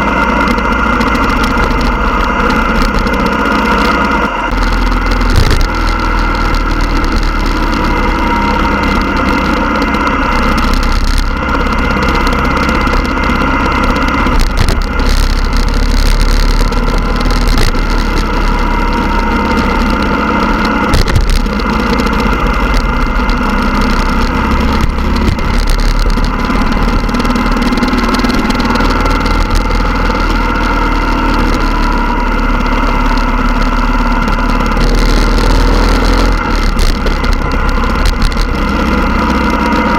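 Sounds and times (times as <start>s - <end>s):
motorcycle engines running: 0.0s - 39.9s.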